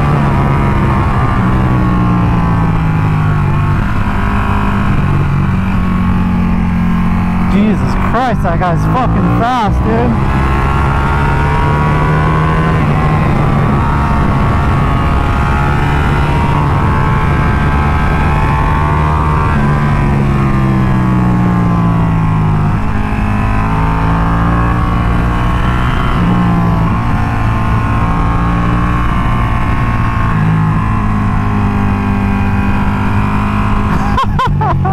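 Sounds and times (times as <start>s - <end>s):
wind rushing over microphone: 0.0s - 34.1s
motorcycle engine revving: 0.0s - 34.9s.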